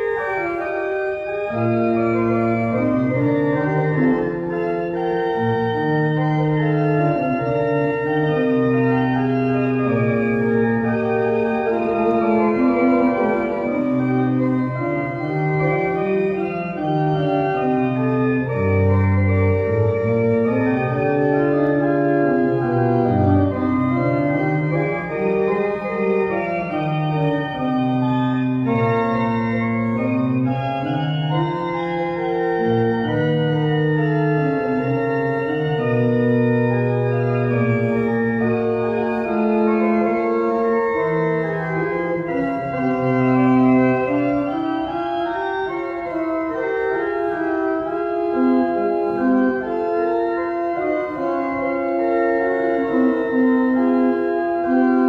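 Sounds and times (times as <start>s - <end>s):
pipe organ playing: 0.0s - 55.0s.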